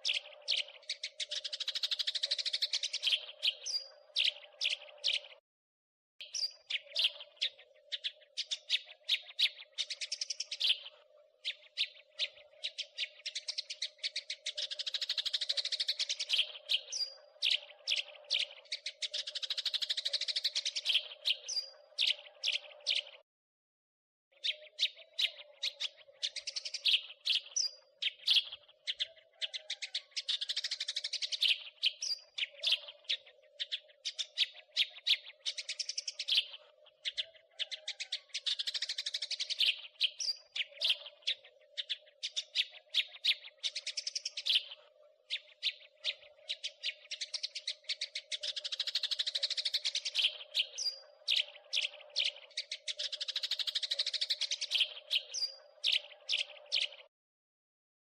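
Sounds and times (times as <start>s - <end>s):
sparrow chirping: 0.0s - 5.4s, 6.2s - 23.2s, 24.3s - 57.1s.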